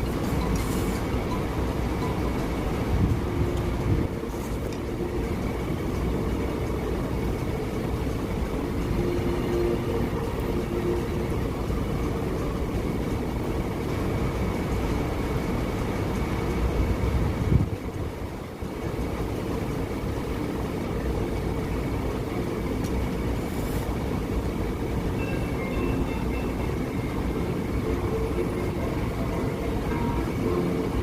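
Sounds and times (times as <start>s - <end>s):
faint steady hum: 0.0s - 31.0s
low rumbling background noise: 0.0s - 31.0s.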